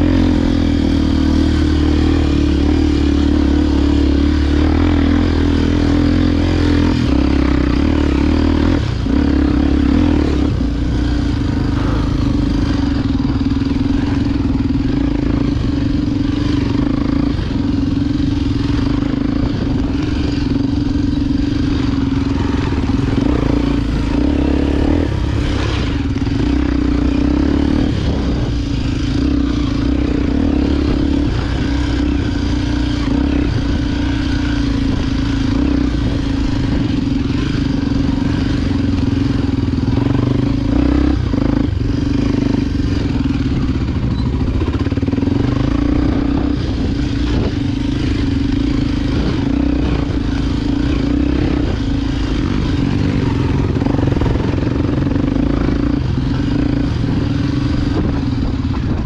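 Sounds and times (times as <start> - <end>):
motorcycle engine running: 0.0 - 59.0
rattling on rough trail: 0.0 - 59.0.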